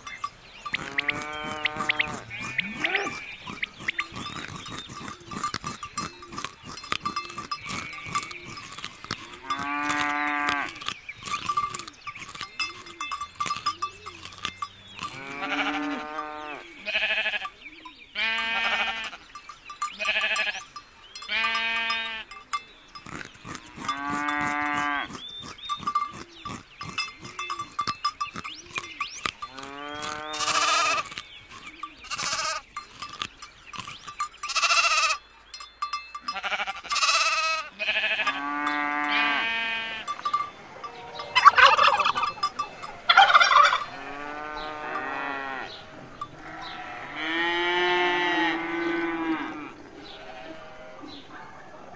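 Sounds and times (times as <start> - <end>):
faint bell-like ringing: 0.0 - 3.3, 4.0 - 10.5, 11.3 - 23.2, 25.6 - 31.0, 31.6 - 47.2
sheep and lambs bleating: 0.2 - 19.3, 19.9 - 22.4, 23.0 - 27.9, 28.7 - 35.3, 36.2 - 51.2.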